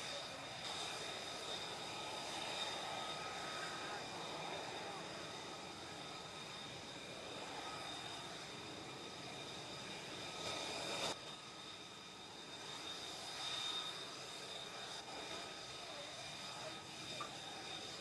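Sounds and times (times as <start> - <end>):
jet engine whine and roar: 0.0 - 18.0.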